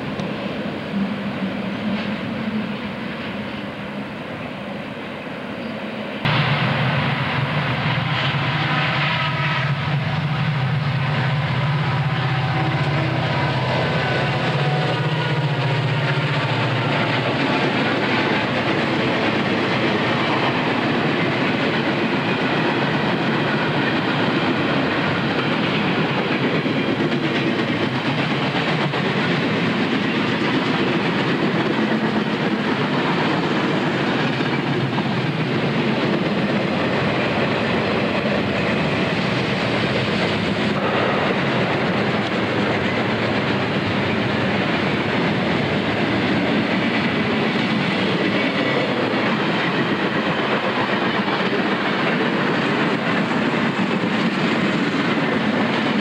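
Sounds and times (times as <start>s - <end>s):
diesel locomotive engines droning: 0.0s - 56.0s
freight cars rumbling on rails: 0.0s - 56.0s.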